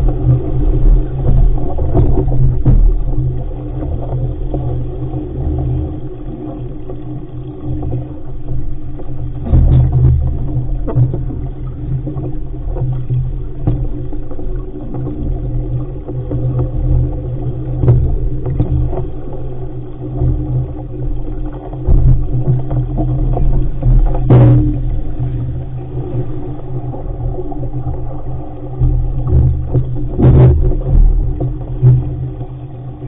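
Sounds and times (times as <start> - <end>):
water rushing along hull: 0.0 - 33.0
waves slapping hull: 0.0 - 33.0.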